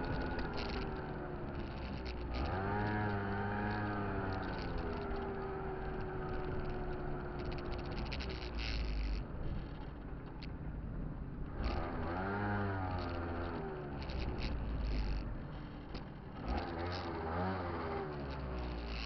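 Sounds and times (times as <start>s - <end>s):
scooter engine revving: 0.0s - 10.5s, 11.5s - 19.0s.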